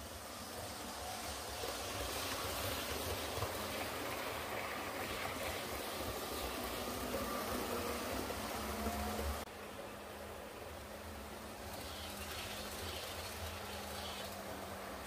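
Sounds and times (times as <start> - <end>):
model train wheels rumbling on rail: 0.0 - 15.0.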